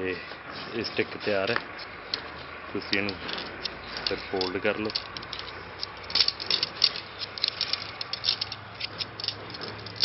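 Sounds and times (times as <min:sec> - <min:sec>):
tent pole sections clacking: 0:00.3 - 0:10.0.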